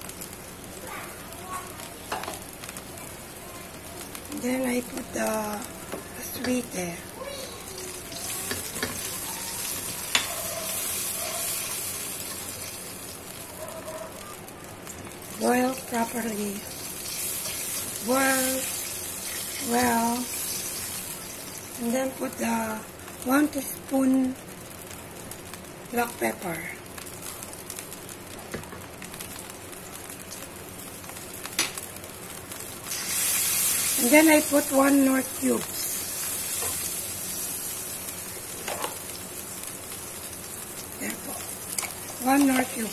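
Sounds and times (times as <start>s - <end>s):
sauce simmering: 0.0s - 23.8s, 26.6s - 42.9s
liquid sizzling in a wok: 0.0s - 42.9s.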